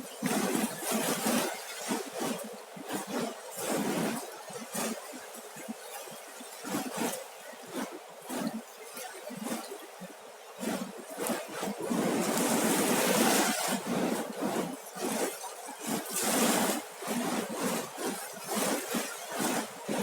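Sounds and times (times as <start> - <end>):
sea waves breaking on a beach: 0.0 - 20.0.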